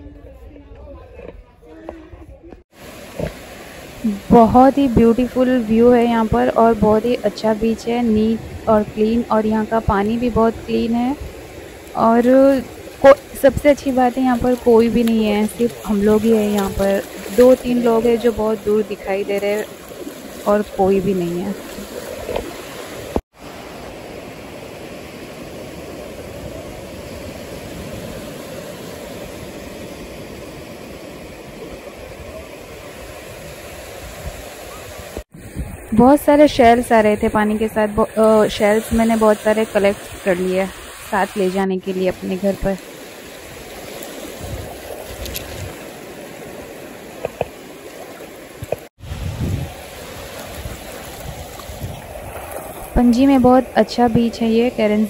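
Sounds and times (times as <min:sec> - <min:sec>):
surf washing onto beach: 0:02.7 - 0:54.8.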